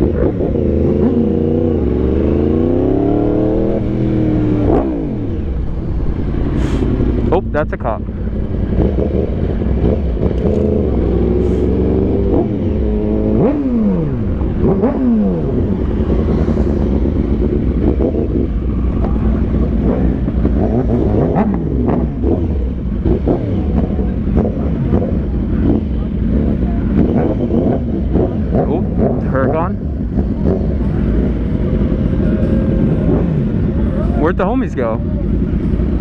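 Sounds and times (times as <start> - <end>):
motorcycle engines: 0.0 - 36.0
road rumble: 0.0 - 36.0.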